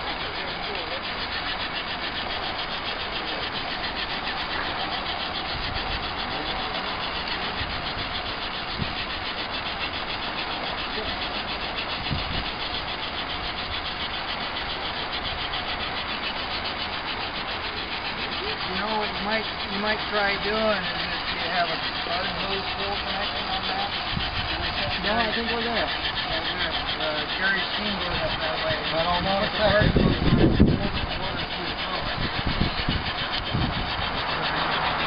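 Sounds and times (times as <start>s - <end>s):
fine rapid pulsing: 0.0s - 35.0s
steam hissing from boiler: 0.0s - 35.0s.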